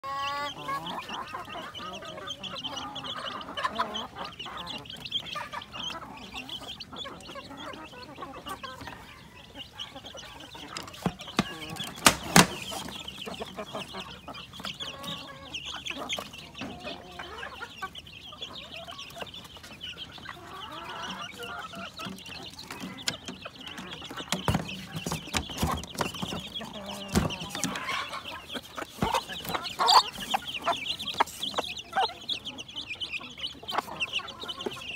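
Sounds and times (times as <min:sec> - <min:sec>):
chicks peeping: 0:00.0 - 0:34.9
hen clucking: 0:00.0 - 0:34.9.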